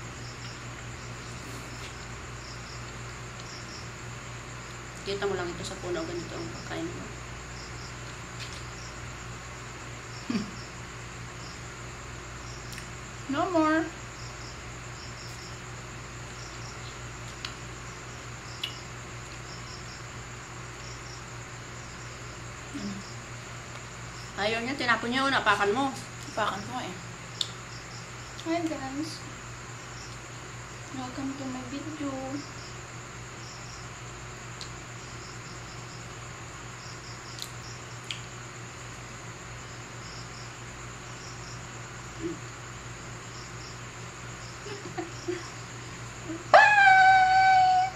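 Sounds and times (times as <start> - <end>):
insect chirping in high pulses: 0.0 - 47.9
steady low hum and hiss: 0.0 - 47.9.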